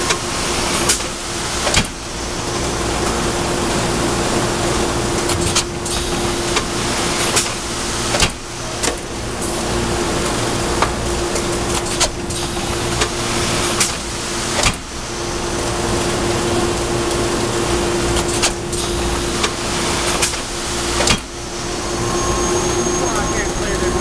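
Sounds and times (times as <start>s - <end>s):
constant machine tone: 0.0s - 24.0s
machinery humming: 0.0s - 24.0s.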